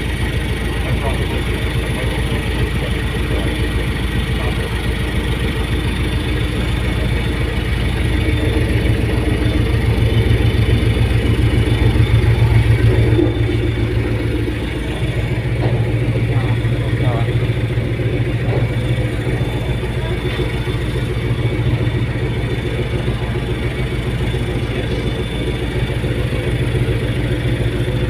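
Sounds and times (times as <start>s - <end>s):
ferry engines droning: 0.0s - 28.0s.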